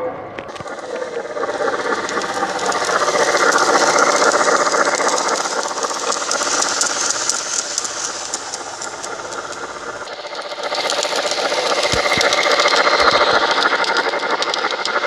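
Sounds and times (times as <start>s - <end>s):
model train wheels rattling on rails: 0.4s - 15.0s.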